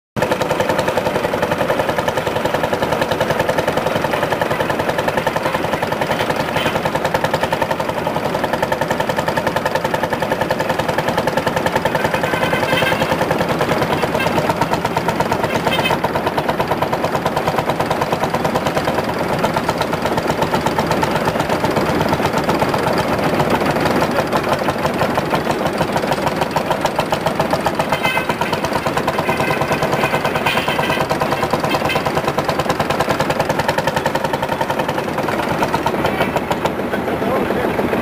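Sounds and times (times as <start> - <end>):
tractor diesel engine beating: 0.2 - 38.0.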